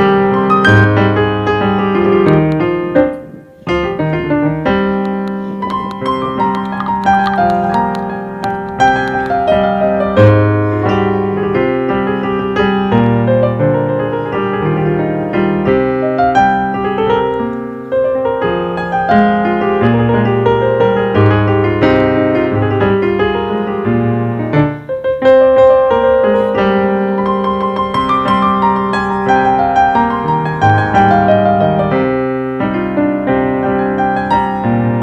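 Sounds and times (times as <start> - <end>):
piano music: 0.0 - 35.0.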